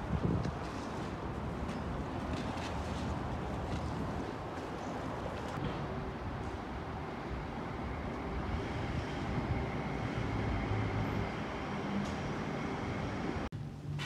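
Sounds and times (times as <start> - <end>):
road traffic rumble: 0.0 - 13.9.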